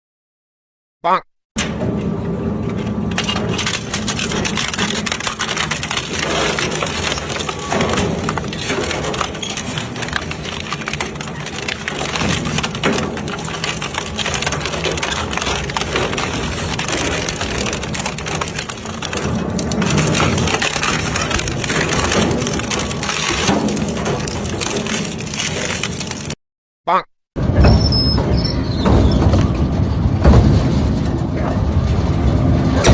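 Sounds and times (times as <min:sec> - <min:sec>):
machine crushing plastic and metal: 0:01.6 - 0:26.4, 0:27.6 - 0:32.9.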